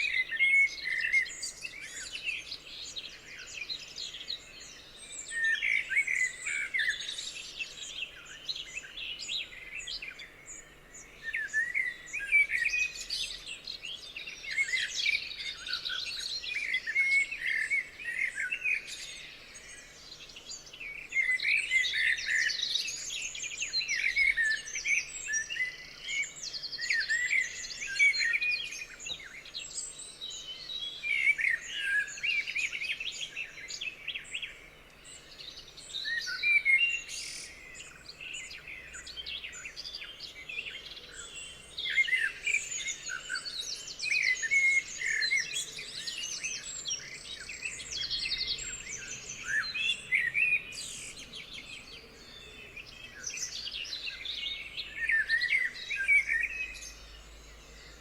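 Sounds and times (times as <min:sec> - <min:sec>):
songbirds singing in chorus: 0:00.0 - 0:58.0.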